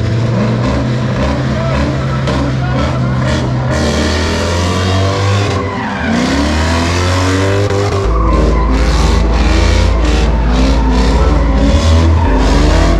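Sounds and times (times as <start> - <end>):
bass-heavy music: 0.0 - 12.9
car engine revving: 0.0 - 12.9
tires squealing and skidding: 0.0 - 12.9.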